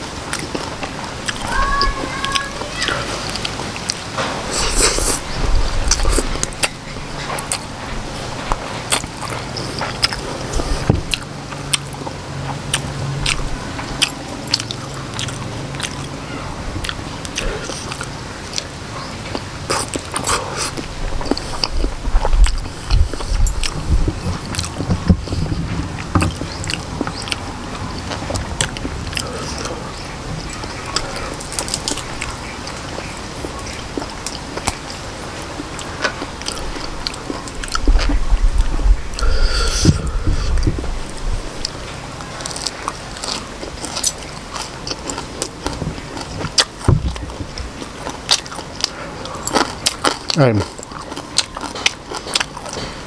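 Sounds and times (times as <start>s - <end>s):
chewing and biting food: 0.0s - 53.0s
wet mouth clicks: 3.2s - 7.7s, 8.4s - 16.1s, 16.8s - 35.0s, 35.6s - 53.0s.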